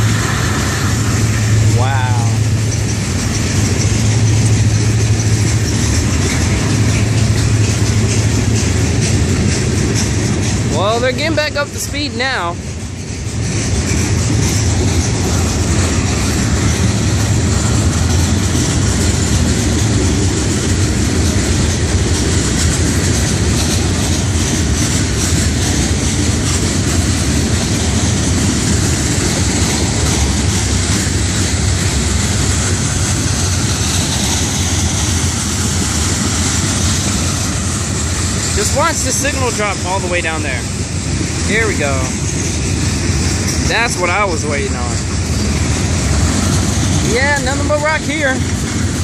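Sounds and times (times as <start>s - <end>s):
freight train wheels rumbling: 0.0s - 49.0s.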